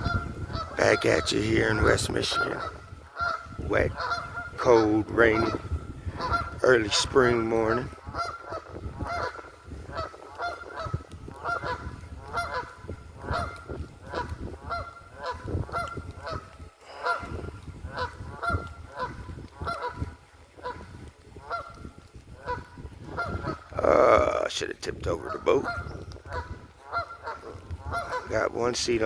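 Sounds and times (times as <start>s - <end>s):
geese honking: 0.0s - 23.8s, 25.1s - 29.0s.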